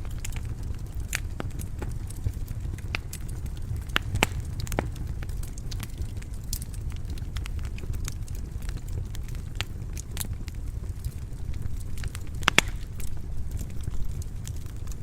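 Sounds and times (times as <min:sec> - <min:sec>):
fire flame rumbling: 0:00.0 - 0:15.0
wood fire crackling and popping: 0:00.0 - 0:15.0.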